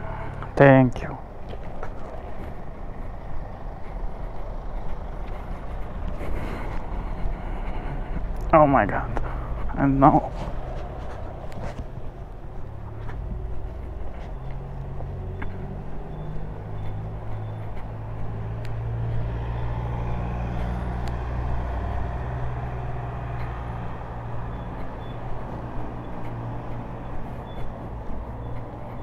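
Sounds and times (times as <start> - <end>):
car engines humming: 0.0 - 29.0
tyre and road noise: 0.0 - 29.0.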